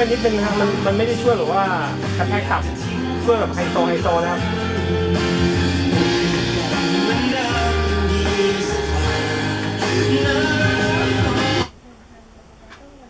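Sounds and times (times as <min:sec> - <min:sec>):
song with singing and bass: 0:00.0 - 0:11.7.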